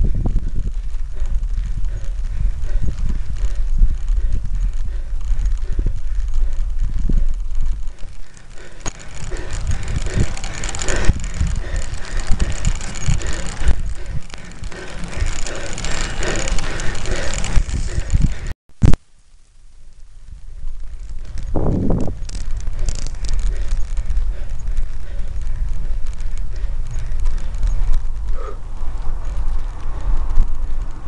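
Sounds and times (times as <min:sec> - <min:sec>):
bike rattling and clicking: 0:00.0 - 0:18.6, 0:20.3 - 0:31.0.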